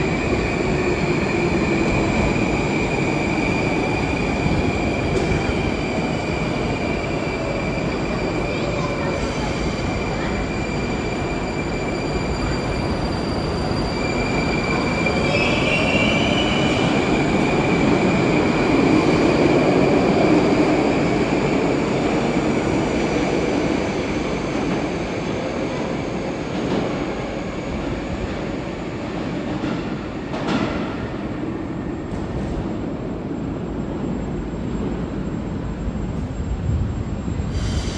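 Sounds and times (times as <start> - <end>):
rumble of train wheels on rails: 0.0 - 37.9.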